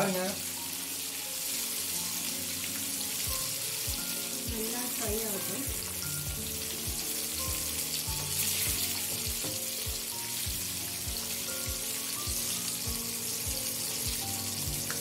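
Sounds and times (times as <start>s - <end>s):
chicken sizzling in oil: 0.0s - 15.0s
background music with beat: 2.3s - 15.0s.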